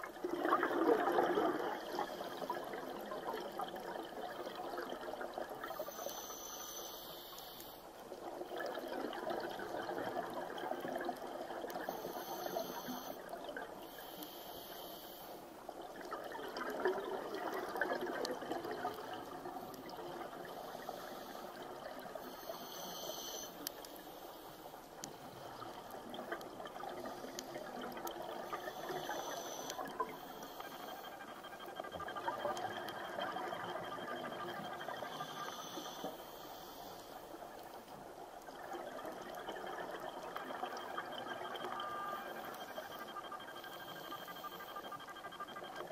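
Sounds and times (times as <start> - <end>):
underwater exhaled bubbles: 0.0 - 6.3, 8.1 - 14.3, 15.6 - 45.9.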